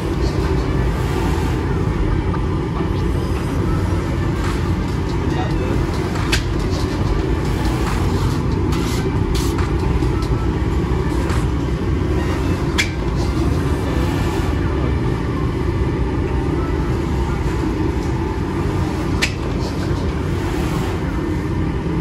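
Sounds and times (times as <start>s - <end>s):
bread oven machinery rumbling: 0.0s - 22.0s.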